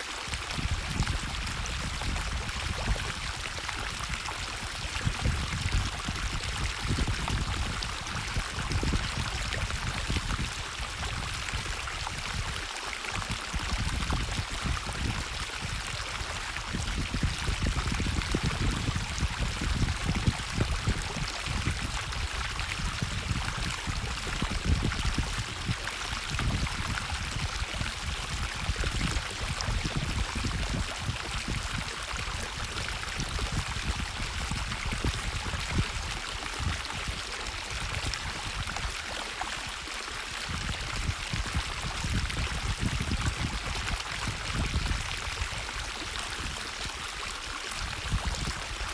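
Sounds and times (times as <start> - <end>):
stream rushing and splashing: 0.0 - 48.9
low water rumble: 0.5 - 48.9.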